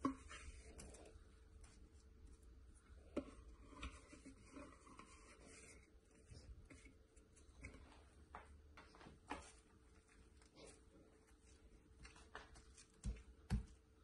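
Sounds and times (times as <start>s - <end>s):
faint rubbing and rustling: 0.0s - 13.2s.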